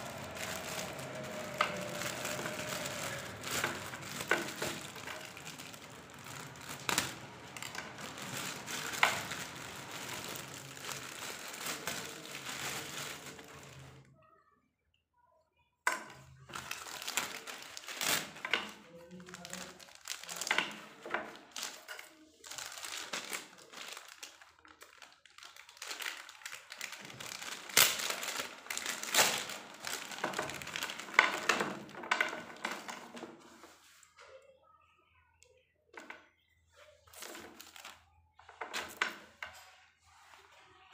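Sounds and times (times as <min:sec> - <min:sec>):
plastic packaging crinkling: 0:00.0 - 0:14.1, 0:16.1 - 0:34.0, 0:37.1 - 0:39.5.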